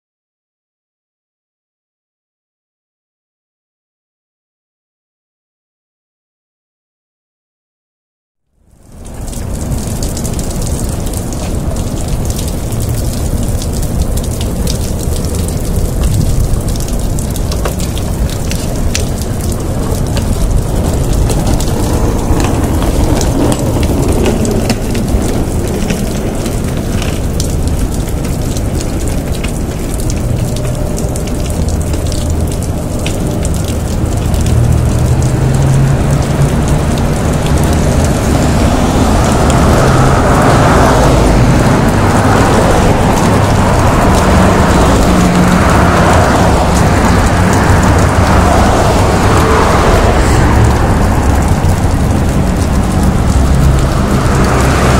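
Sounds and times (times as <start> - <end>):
water dripping onto sidewalk: 8.6 - 54.9
low rumble: 8.9 - 54.9.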